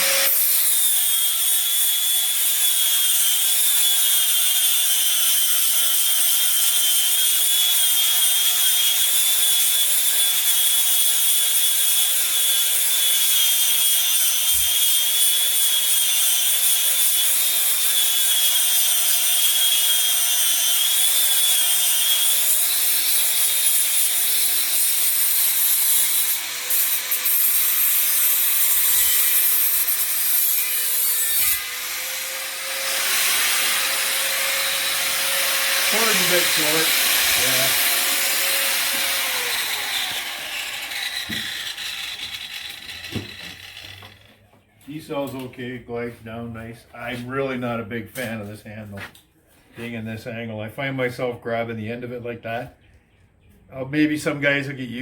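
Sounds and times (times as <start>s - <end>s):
angle grinder grinding: 0.0s - 44.4s.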